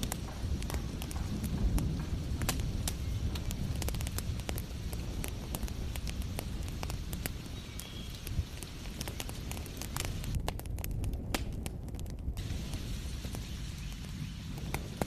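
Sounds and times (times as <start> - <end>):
low rumble and hiss: 0.0 - 15.0
wood fire crackling and popping: 0.0 - 15.0.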